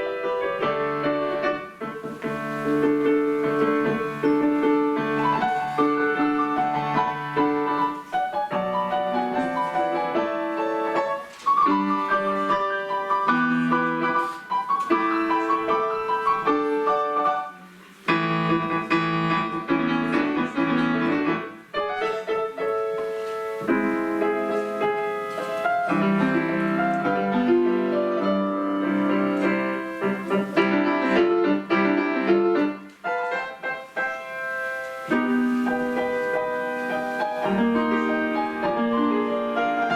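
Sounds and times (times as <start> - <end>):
piano melody: 0.0 - 39.9.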